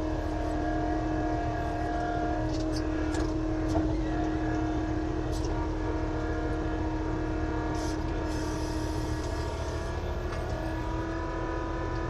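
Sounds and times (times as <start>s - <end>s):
bulldozer engine running: 0.0s - 12.0s.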